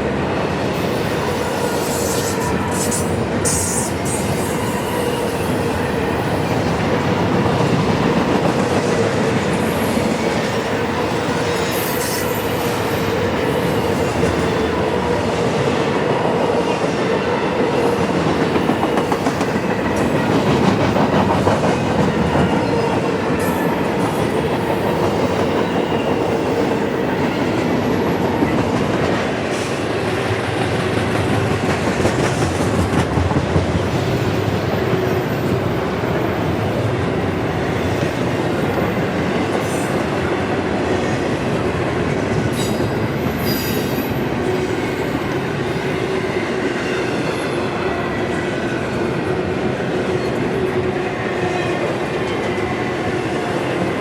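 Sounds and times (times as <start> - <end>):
train wheels clickety-clack: 0.5 - 54.0.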